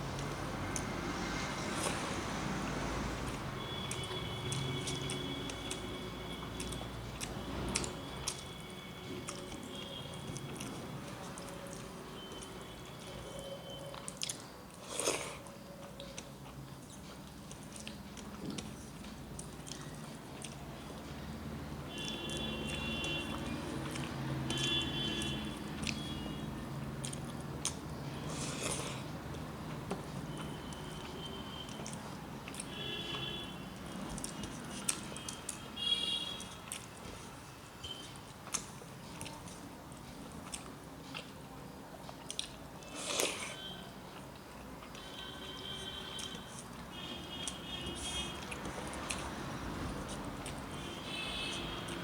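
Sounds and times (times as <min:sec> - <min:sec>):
person chewing food: 0:03.2 - 0:21.1, 0:21.9 - 0:52.0.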